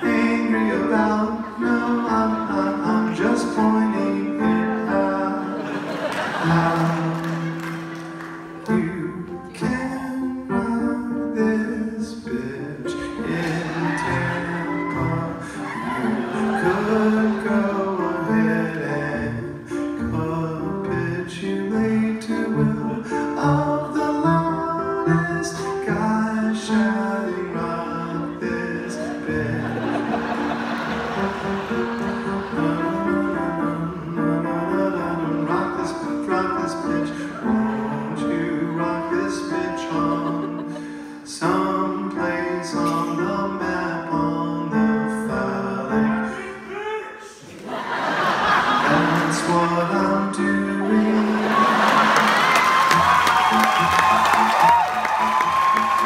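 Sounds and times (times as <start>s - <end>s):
man singing: 0.0s - 7.9s, 8.5s - 30.2s, 32.2s - 47.4s, 48.7s - 52.3s
grand piano chords: 0.0s - 47.0s, 47.8s - 54.4s.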